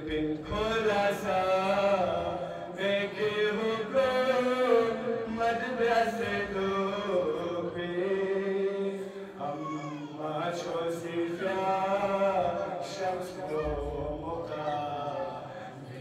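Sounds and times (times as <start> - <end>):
man chanting: 0.0 - 15.6.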